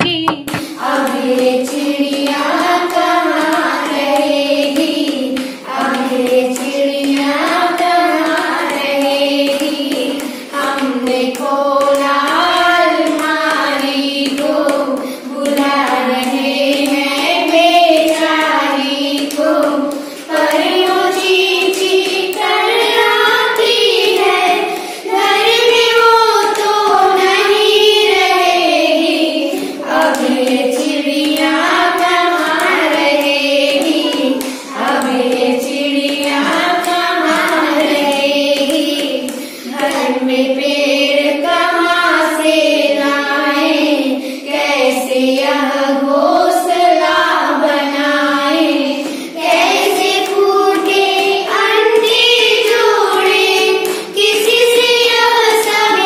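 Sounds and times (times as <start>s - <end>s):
girls singing together: 0.0s - 56.0s.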